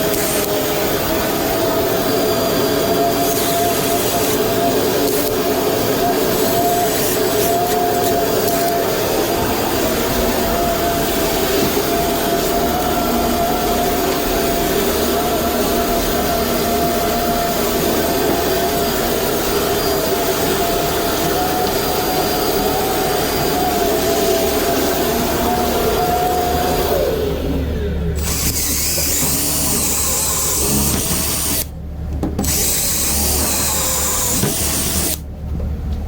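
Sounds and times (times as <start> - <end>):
shop vacuum motor whine: 0.0 - 35.4.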